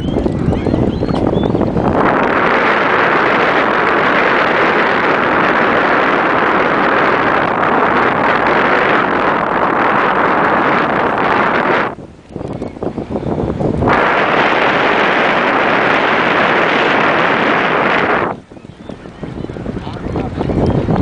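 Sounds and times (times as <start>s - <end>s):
water and wind hiss: 1.2s - 21.0s.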